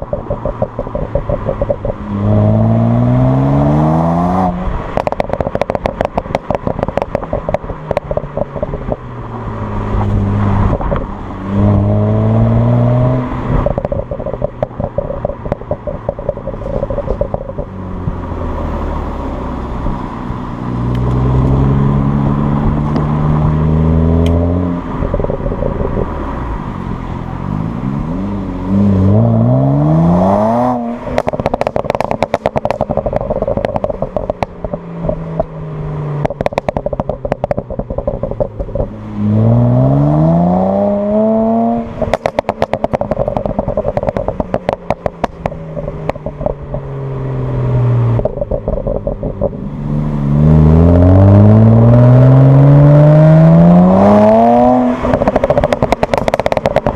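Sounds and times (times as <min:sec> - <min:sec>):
car engine revving: 0:00.0 - 0:56.9
exhaust popping and crackling: 0:00.0 - 0:56.9.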